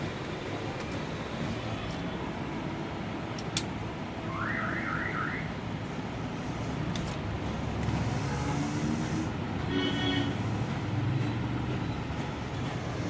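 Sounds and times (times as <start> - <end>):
vehicle background noise: 0.0 - 13.0.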